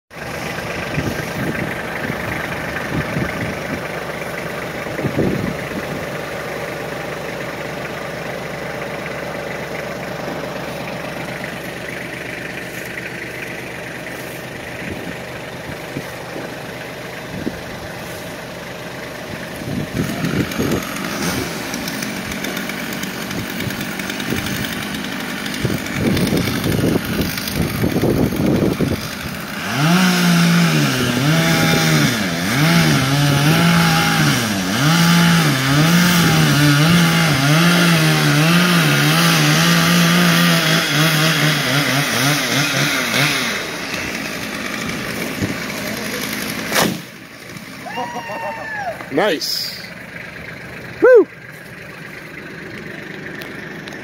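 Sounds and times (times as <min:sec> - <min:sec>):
tractor engine idling: 0:00.1 - 0:54.0.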